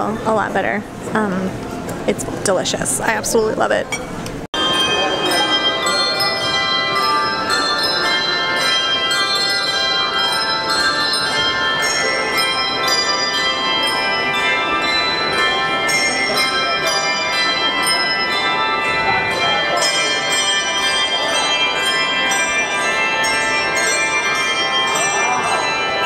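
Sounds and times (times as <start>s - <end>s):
handbell choir playing: 4.6s - 26.0s.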